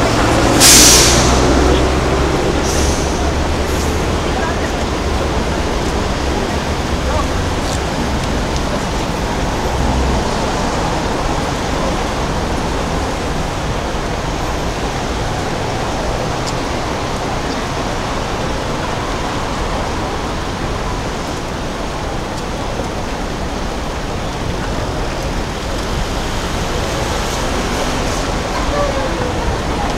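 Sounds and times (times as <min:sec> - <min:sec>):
cars passing: 0:00.0 - 0:29.9.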